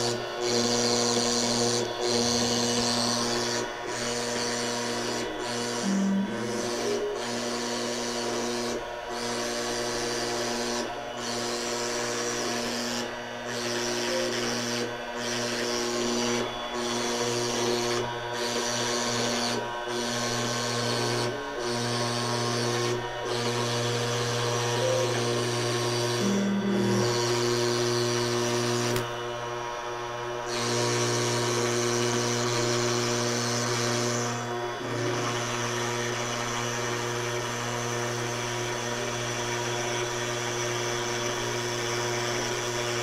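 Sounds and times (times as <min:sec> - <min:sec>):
router bit rasping cut: 0:00.0 - 0:43.0
router spindle humming: 0:00.0 - 0:43.0.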